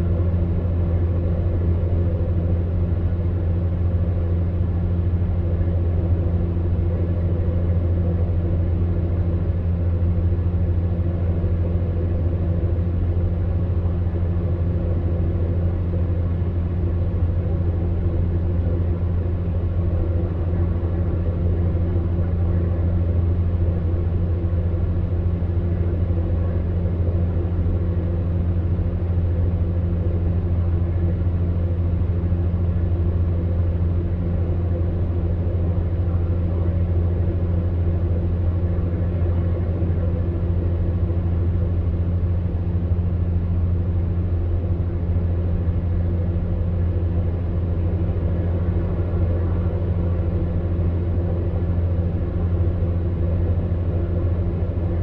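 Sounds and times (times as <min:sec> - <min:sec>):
fan heater humming: 0:00.0 - 0:55.0.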